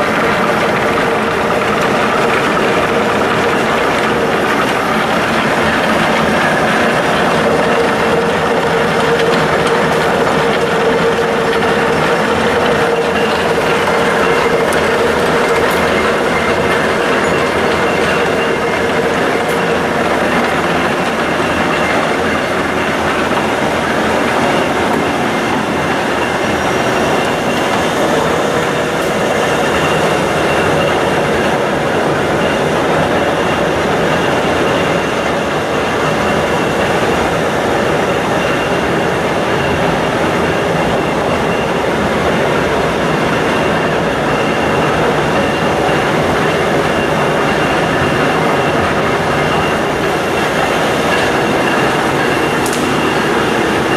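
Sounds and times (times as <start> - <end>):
heavy machinery clattering: 0.0 - 53.9.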